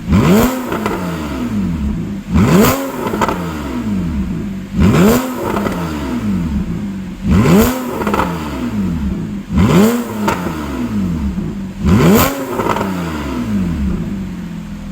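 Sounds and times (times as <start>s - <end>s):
sports car engine revving: 0.0s - 14.9s.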